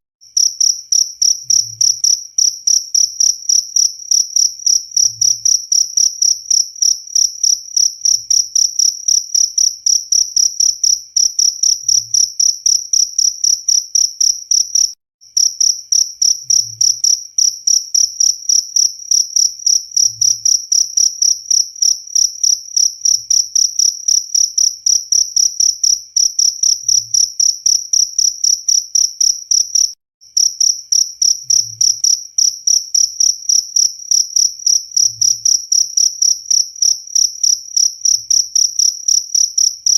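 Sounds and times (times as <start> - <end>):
cricket chirping: 0.3 - 39.9.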